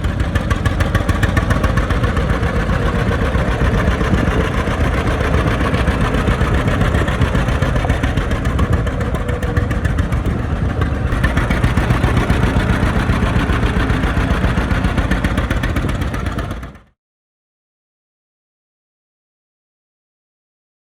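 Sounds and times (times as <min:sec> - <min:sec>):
tractor engine idling: 0:00.0 - 0:16.9.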